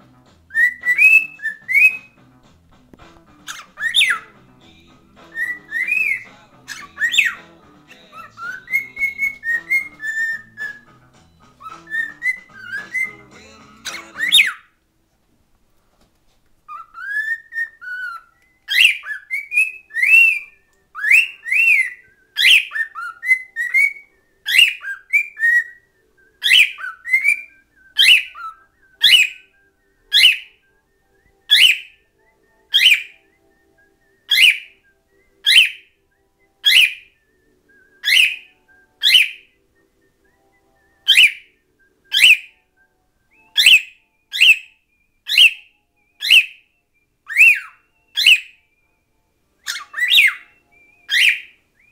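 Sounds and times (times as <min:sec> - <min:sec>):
cockatiel whistling: 0:00.4 - 0:02.2, 0:03.3 - 0:14.8, 0:16.7 - 0:51.9
cockatiel calling sharp notes: 0:00.5 - 0:02.2, 0:03.3 - 0:04.4, 0:05.2 - 0:14.8, 0:16.7 - 0:30.6, 0:31.4 - 0:33.4, 0:34.2 - 0:34.8, 0:35.4 - 0:37.2, 0:38.0 - 0:39.6, 0:40.9 - 0:48.8, 0:49.6 - 0:51.9.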